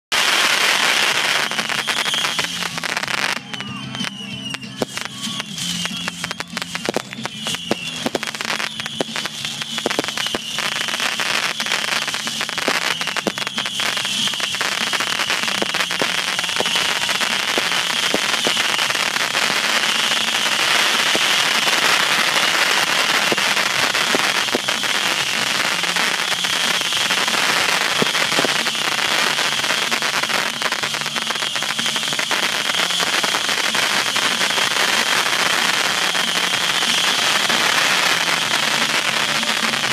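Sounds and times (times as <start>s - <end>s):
firework crackling: 0.1s - 39.9s
firework hissing: 0.1s - 39.9s.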